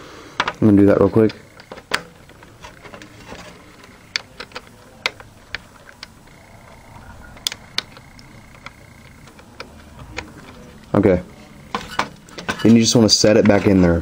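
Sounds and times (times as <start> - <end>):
plastic and metal parts clicking: 0.4 - 14.0.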